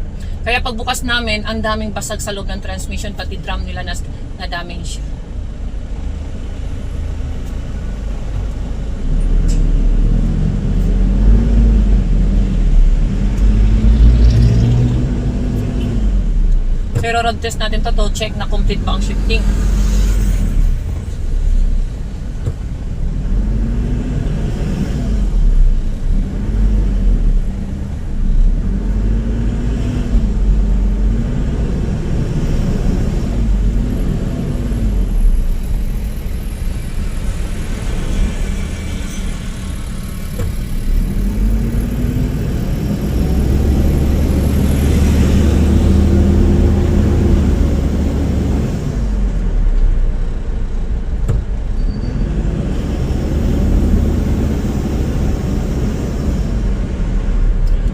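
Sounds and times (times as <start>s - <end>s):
road and engine rumble: 0.0s - 57.9s
car engine shifting gears: 6.0s - 57.9s.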